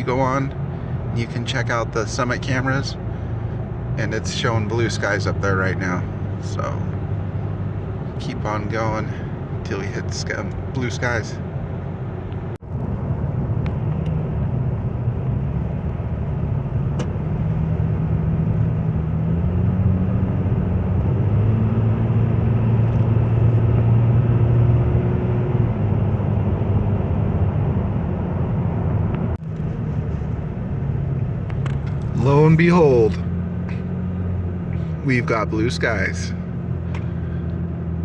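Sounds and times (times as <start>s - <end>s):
car engine hum: 0.0s - 38.0s
road noise: 0.0s - 38.0s.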